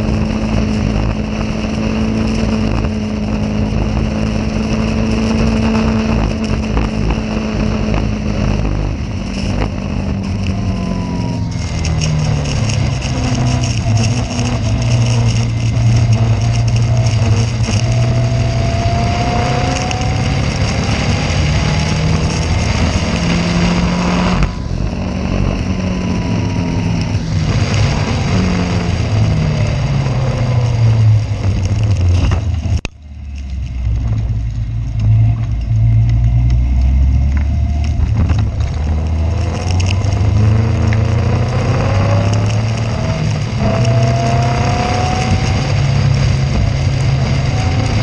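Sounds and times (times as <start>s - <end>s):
race car engine revving: 0.0s - 48.0s.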